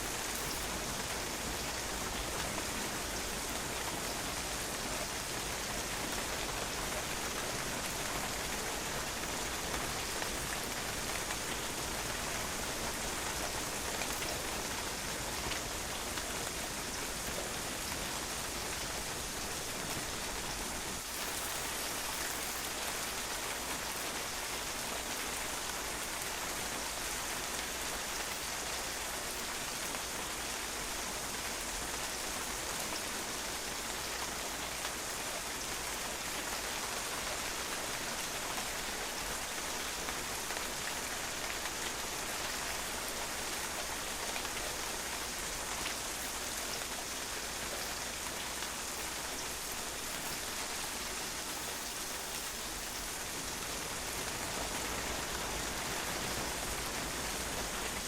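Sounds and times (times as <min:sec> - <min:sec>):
rain spattering on a patio: 0:00.0 - 0:58.0.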